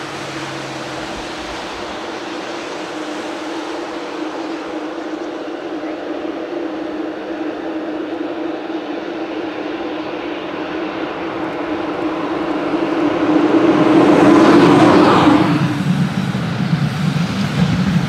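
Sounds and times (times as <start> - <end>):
electric locomotive hum: 0.0 - 18.0
train wheel noise: 0.0 - 18.0.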